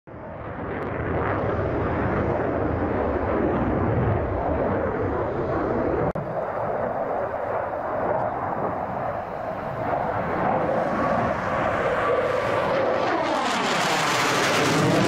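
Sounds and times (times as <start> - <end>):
fighter jet engines roaring: 0.1 - 15.0.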